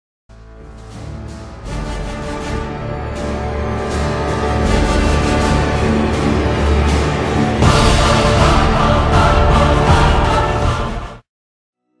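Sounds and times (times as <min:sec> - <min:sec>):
theme music with pulsing beat: 0:00.3 - 0:11.2.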